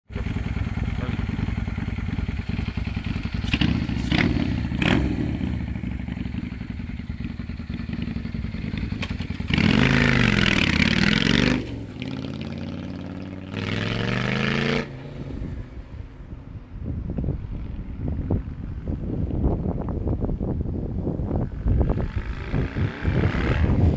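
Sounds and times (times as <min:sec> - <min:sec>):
motorcycle engine idling and revving: 0:00.1 - 0:23.9.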